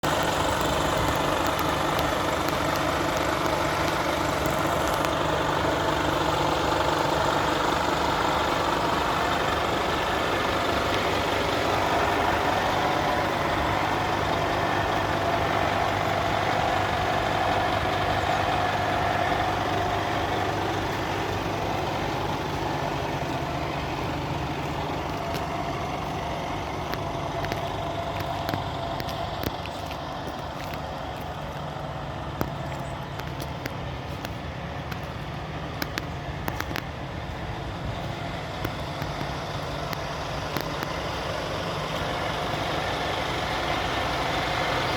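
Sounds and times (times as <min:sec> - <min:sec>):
truck diesel engine idling: 0:00.0 - 0:44.9.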